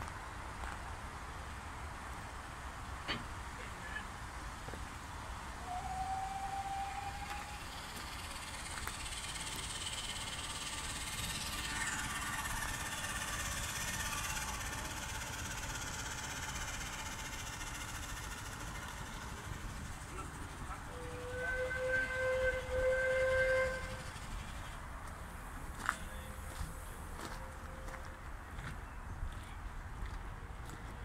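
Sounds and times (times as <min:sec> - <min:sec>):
steam traction engines running: 0:00.0 - 0:28.7.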